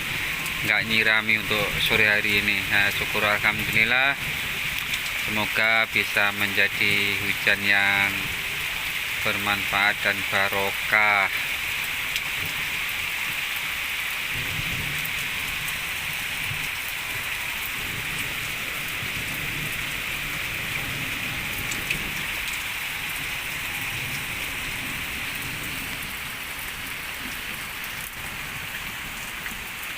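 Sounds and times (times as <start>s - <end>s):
rain falling: 0.0s - 29.9s.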